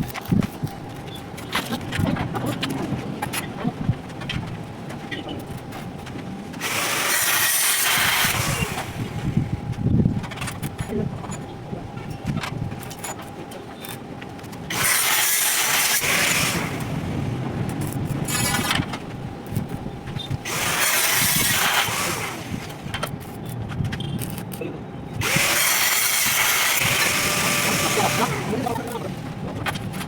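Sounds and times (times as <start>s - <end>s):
arc welding crackle and hiss: 0.0s - 30.0s.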